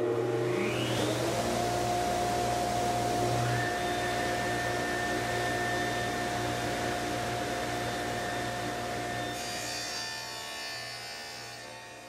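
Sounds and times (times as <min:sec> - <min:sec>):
table saw spinning: 0:00.2 - 0:10.2.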